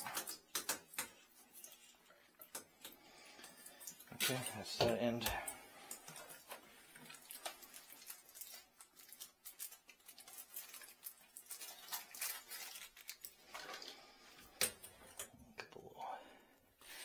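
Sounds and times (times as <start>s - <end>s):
shower hose clicking and rustling: 0.0s - 15.4s.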